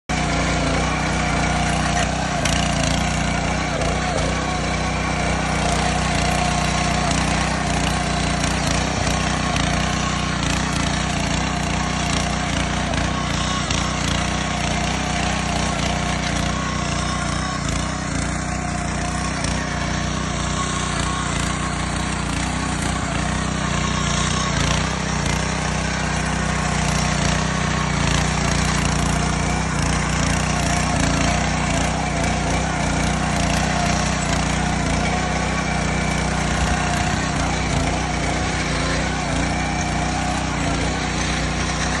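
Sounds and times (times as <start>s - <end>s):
tiller engine running: 0.0s - 42.0s.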